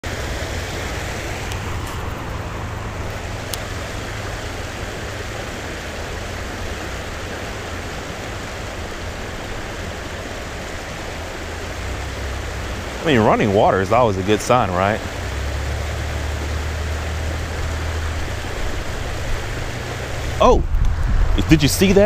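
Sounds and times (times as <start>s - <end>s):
stream rushing over riffles: 0.0s - 22.0s.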